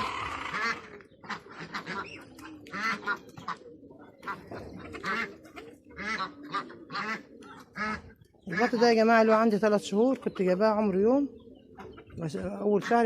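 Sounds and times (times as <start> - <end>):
ducks quacking: 0.0 - 9.4, 11.8 - 13.0.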